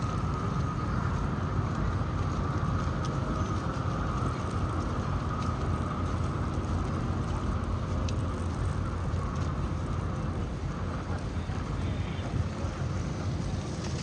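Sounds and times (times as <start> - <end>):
city street noise: 0.0 - 14.0.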